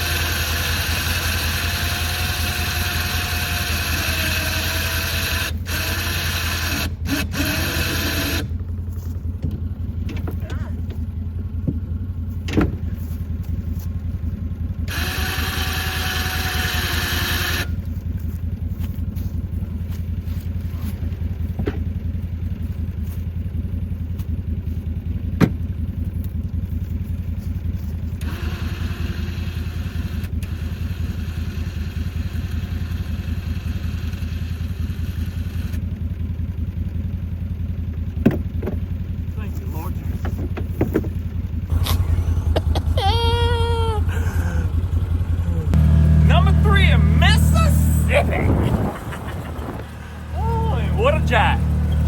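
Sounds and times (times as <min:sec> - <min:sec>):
vehicle engine low drone: 0:00.0 - 0:52.0.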